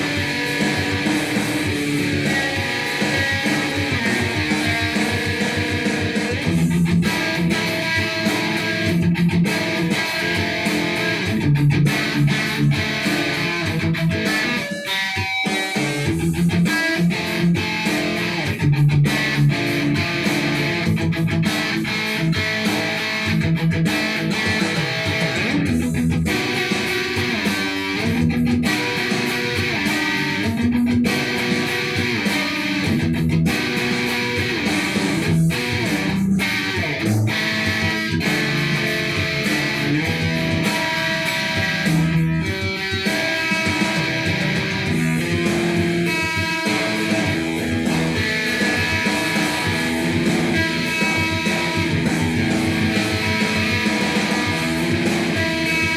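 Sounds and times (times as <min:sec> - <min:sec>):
electric guitar improvising: 0:00.0 - 0:55.9.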